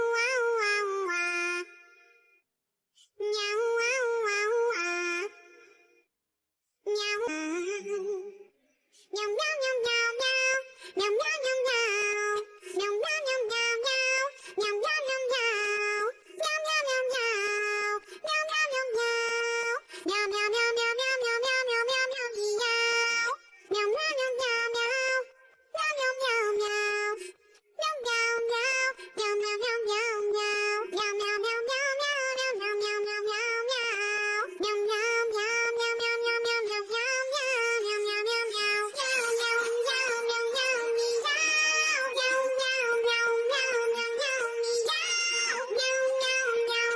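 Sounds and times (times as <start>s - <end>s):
synthetic high-pitched singing: 0.0s - 2.0s, 3.2s - 5.6s, 6.9s - 8.5s, 9.1s - 46.9s.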